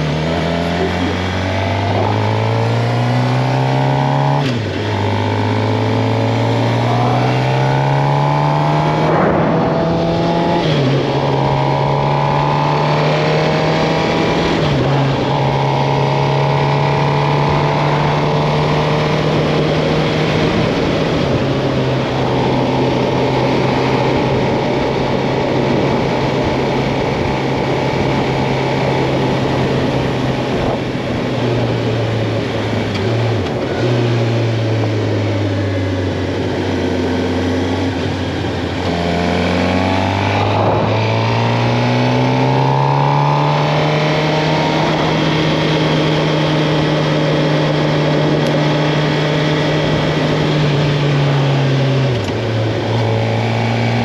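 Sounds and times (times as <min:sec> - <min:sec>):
motorcycle engine running: 0:00.0 - 0:54.0
wind noise: 0:06.7 - 0:34.8, 0:38.0 - 0:54.0.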